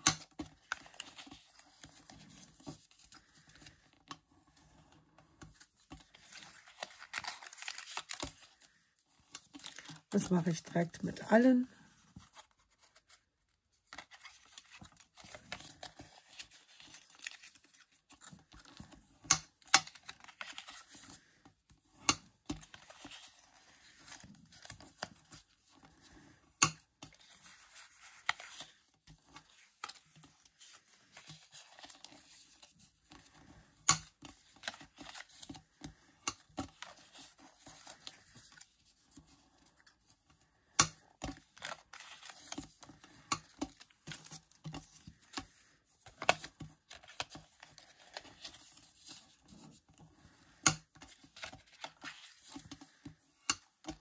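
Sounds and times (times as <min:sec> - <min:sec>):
paper rustling and scraping: 0:00.0 - 0:10.3, 0:11.8 - 0:40.3, 0:41.2 - 0:54.0.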